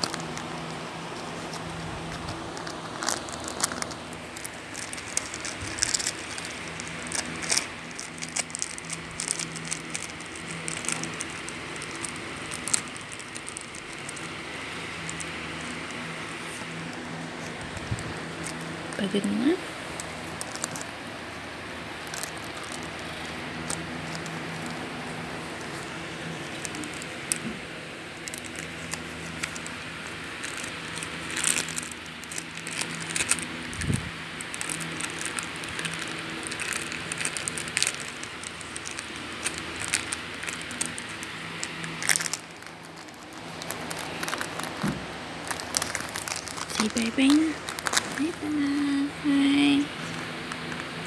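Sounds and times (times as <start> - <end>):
plastic wrapper crinkling: 0.0 - 51.0
steady low hum: 0.0 - 51.0.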